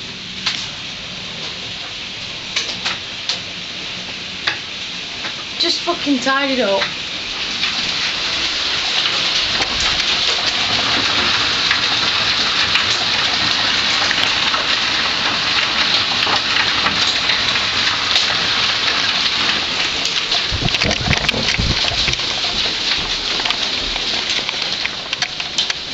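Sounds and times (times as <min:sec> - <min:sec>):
hailstones pelting down: 0:00.3 - 0:25.9.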